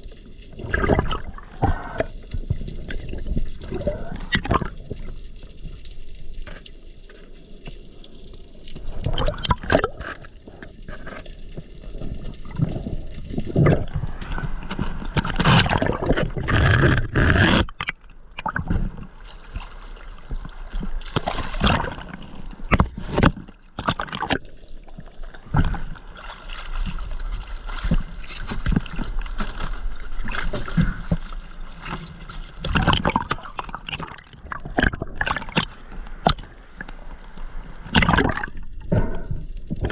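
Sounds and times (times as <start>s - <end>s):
water splashing and sloshing: 0.0s - 39.9s.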